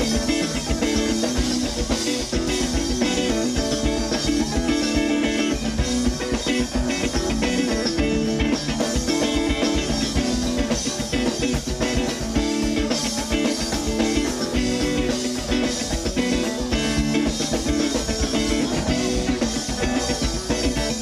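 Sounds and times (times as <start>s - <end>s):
drum kit: 0.0s - 21.0s
electric bass: 0.0s - 21.0s
electric guitars: 0.0s - 21.0s.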